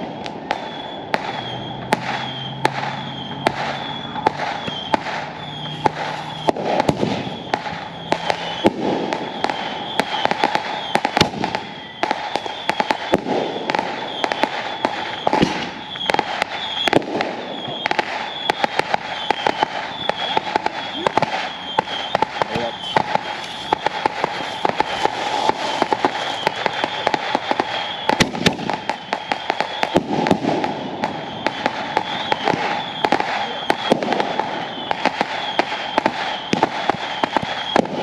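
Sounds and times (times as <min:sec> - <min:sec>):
fireworks bangs and pops: 0:00.0 - 0:38.0
fireworks crackling: 0:00.0 - 0:38.0.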